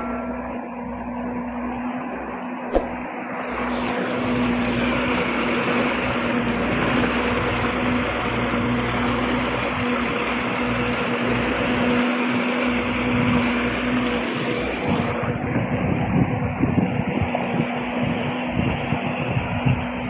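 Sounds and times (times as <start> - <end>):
outboard motor humming: 0.0 - 20.0
water rushing against hull: 0.0 - 20.0.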